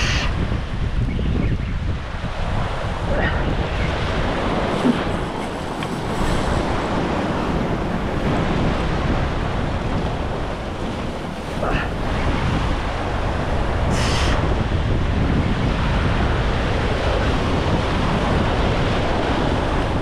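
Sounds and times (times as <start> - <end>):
surf washing: 0.0 - 20.0
wind buffeting microphone: 0.0 - 20.0.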